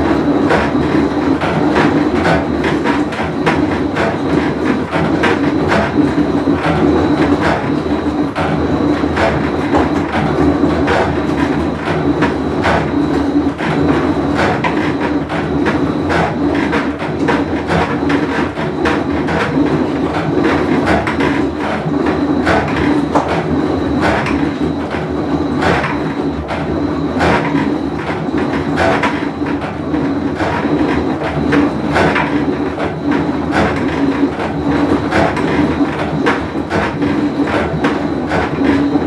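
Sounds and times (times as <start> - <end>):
washer drum knocking and rattling: 0.0 - 39.0
washing machine humming: 0.0 - 39.0.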